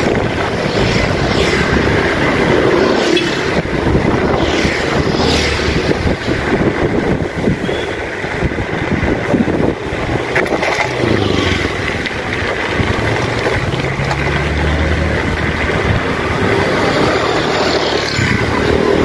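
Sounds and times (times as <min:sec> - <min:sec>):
noisy street background: 0:00.0 - 0:19.0
scooter engine hum: 0:00.0 - 0:19.0.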